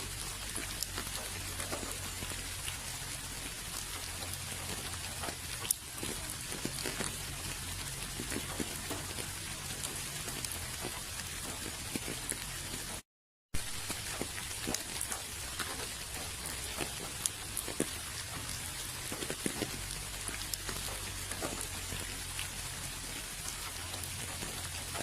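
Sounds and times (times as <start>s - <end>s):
raindrops ticking on a surface: 0.0s - 13.0s, 13.6s - 25.0s
steady rain hiss: 0.0s - 13.0s, 13.6s - 25.0s.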